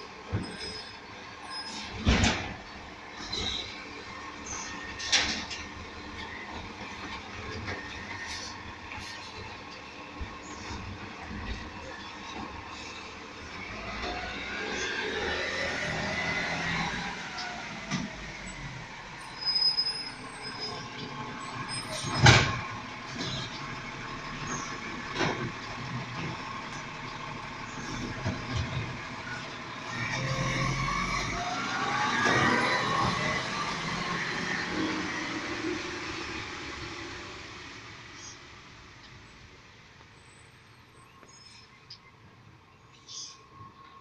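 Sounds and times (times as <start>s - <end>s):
diesel engine running: 0.0s - 41.2s.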